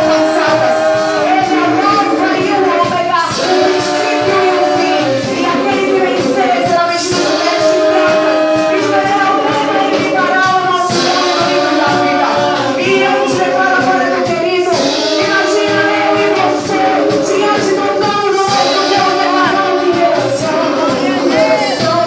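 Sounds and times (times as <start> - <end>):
instrumental accompaniment with beat: 0.0 - 22.0
voices singing worship song: 0.0 - 22.0.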